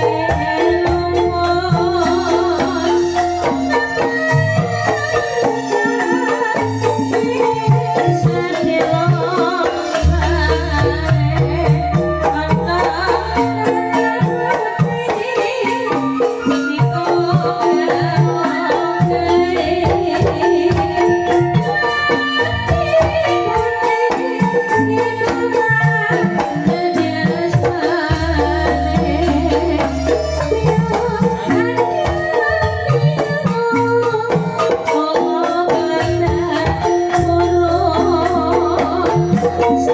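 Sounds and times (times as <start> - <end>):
bamboo xylophones playing: 0.0 - 39.9
hand drums: 0.0 - 39.9.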